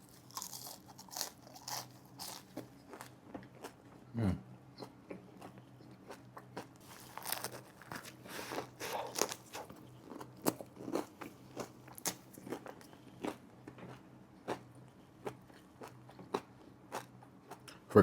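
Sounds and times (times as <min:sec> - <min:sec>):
crunchy chewing: 0:00.0 - 0:03.9, 0:04.8 - 0:17.8.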